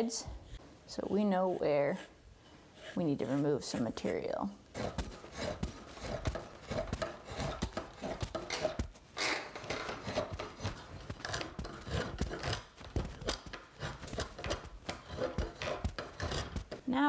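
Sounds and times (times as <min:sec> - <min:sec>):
rasp scraping wood: 0:00.4 - 0:16.8.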